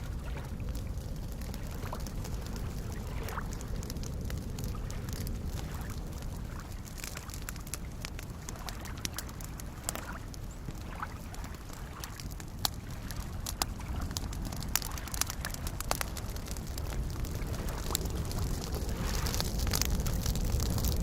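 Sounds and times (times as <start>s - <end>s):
lake waves lapping: 0.0s - 20.9s
campfire crackling: 0.0s - 21.0s
fire popping and snapping: 0.0s - 21.0s.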